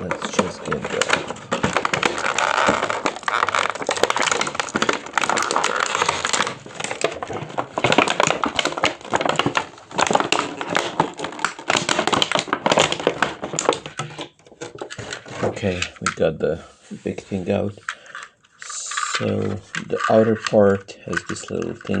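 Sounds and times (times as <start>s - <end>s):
toy packaging crinkling: 0.0s - 16.2s, 17.6s - 22.0s.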